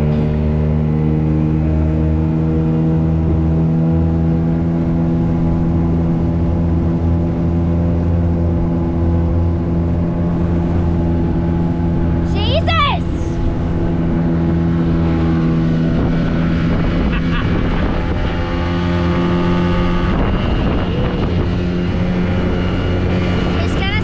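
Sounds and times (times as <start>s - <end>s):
outboard motor droning: 0.0s - 24.0s.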